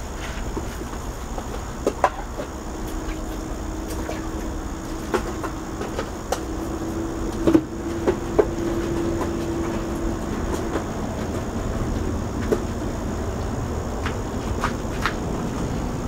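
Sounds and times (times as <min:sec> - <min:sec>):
compressor humming: 0:00.0 - 0:16.0.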